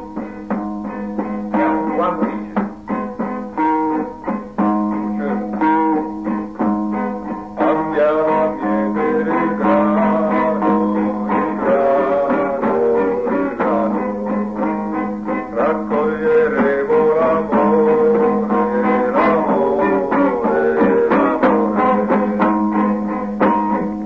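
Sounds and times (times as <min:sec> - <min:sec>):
acoustic guitar strumming: 0:00.0 - 0:24.0
person singing: 0:00.0 - 0:24.0.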